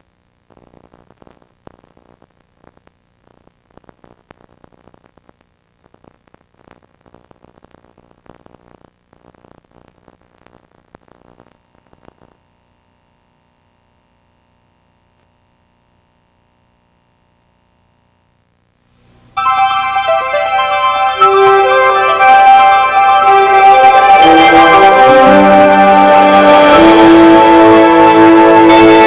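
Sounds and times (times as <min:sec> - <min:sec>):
crackling static: 0:00.0 - 0:29.0.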